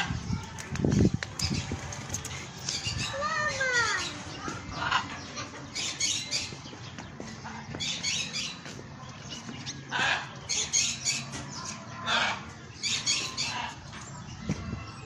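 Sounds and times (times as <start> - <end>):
birds squawking and chirping: 0.0 - 15.0.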